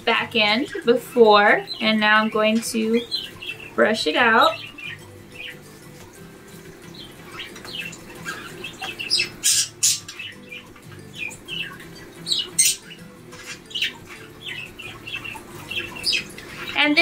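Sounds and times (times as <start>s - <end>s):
birds chirping: 0.0s - 17.0s
bird squawks: 0.4s - 5.7s, 6.9s - 17.0s.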